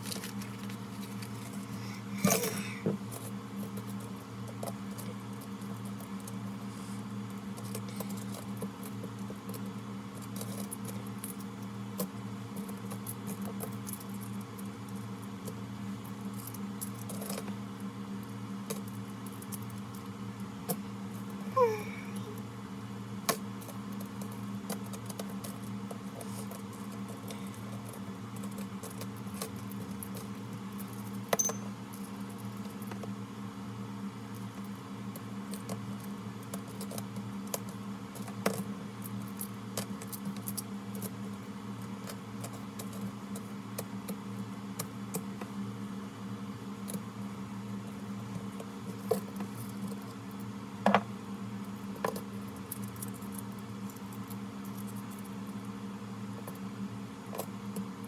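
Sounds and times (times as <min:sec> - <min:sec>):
low electrical hum: 0:00.0 - 0:58.0.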